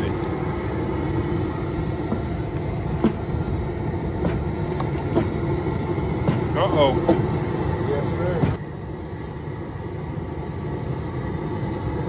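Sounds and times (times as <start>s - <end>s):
propane burner rumbling: 0.0s - 12.0s.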